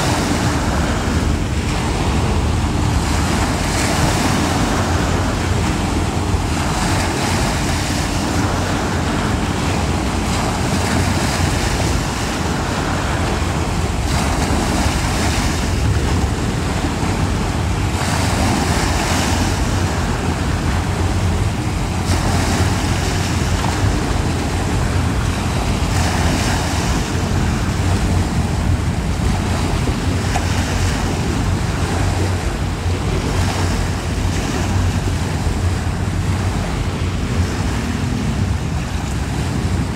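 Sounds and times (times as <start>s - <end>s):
water and waves: 0.0s - 39.9s
wind buffeting microphone: 0.0s - 39.9s.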